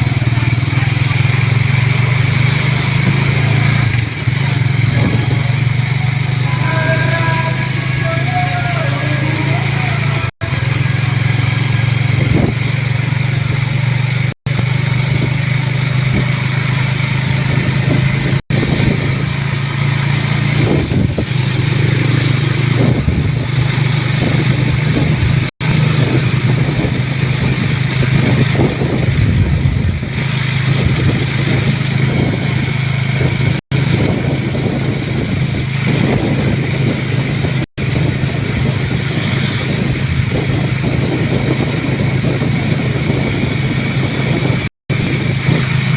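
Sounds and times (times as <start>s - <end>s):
road and wind noise: 0.0s - 45.9s
vehicle engine running: 0.0s - 45.9s.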